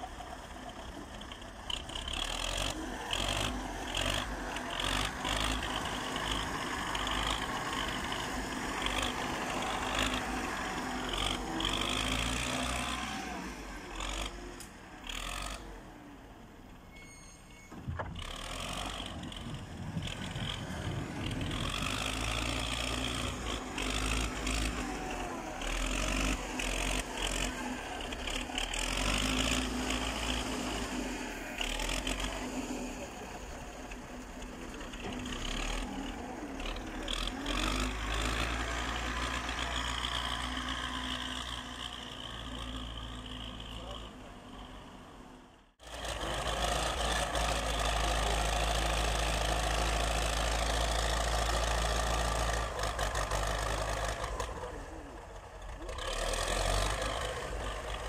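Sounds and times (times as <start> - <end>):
tractor engine running under load: 0.0 - 16.8, 17.8 - 58.0.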